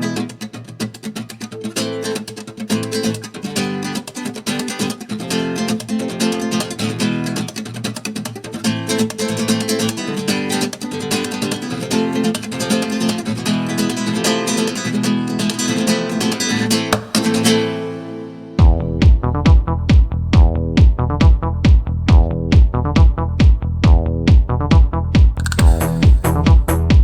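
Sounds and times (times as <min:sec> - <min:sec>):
flamenco acoustic guitar: 0:00.0 - 0:27.0.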